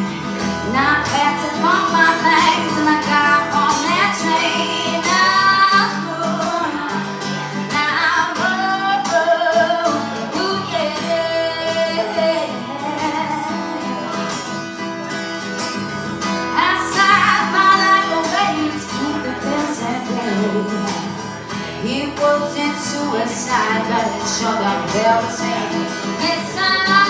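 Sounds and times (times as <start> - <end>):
acoustic guitar: 0.0 - 27.0
person singing: 0.6 - 14.5, 16.5 - 27.0.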